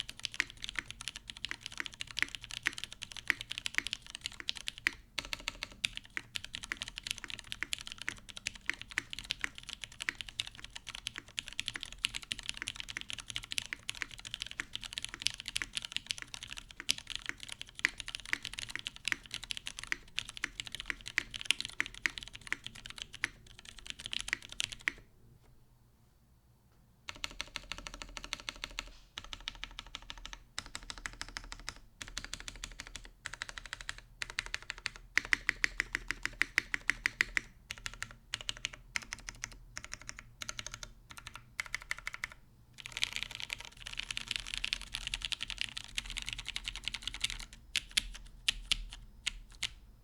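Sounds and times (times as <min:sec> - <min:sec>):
mechanical keyboard clacks: 0:00.0 - 0:25.0, 0:27.1 - 0:49.8.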